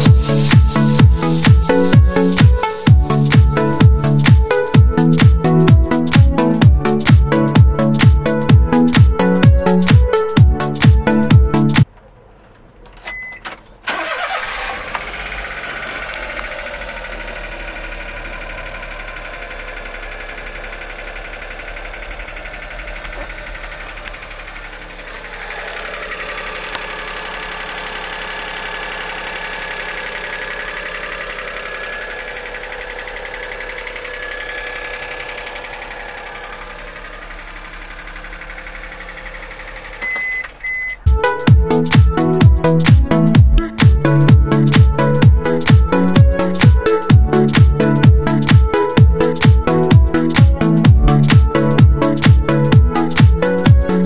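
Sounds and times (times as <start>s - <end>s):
car engine cranking and idling: 0.0s - 54.0s.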